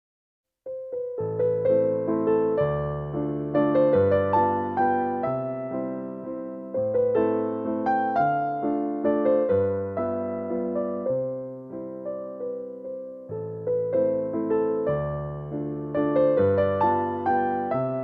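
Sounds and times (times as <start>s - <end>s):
solo piano playing slow chords: 0.7s - 18.0s.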